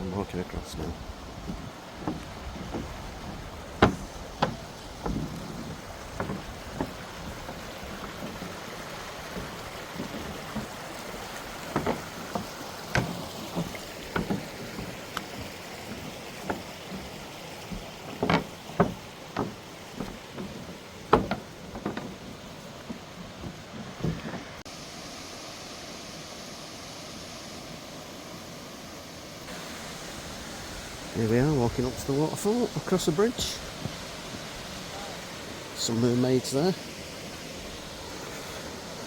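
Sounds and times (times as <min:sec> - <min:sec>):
waterfall and stream rushing: 0:00.0 - 0:39.0
footsteps on footbridge: 0:00.2 - 0:24.7, 0:31.2 - 0:39.0.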